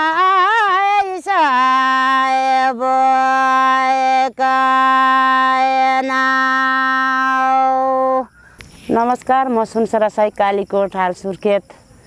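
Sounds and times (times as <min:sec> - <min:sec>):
woman singing folk tune unaccompanied: 0:00.0 - 0:11.6.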